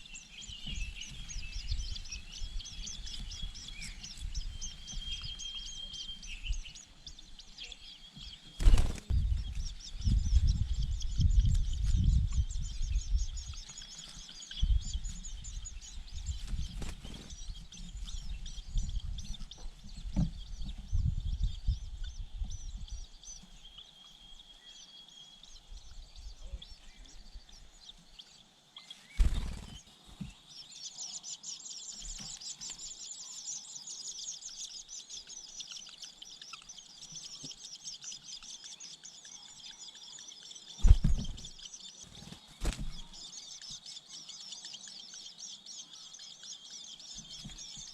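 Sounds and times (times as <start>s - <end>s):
high chittering bird calls: 0.0s - 47.9s.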